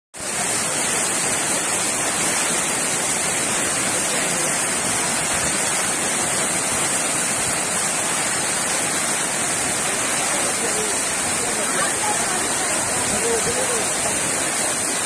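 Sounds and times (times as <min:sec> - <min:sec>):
heavy rain: 0:00.2 - 0:15.0
water pouring off bridge edges: 0:00.2 - 0:15.0.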